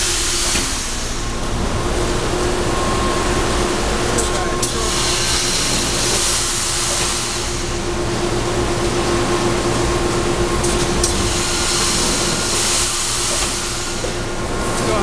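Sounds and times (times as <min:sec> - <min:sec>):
machinery hum and rumble: 0:00.0 - 0:15.0.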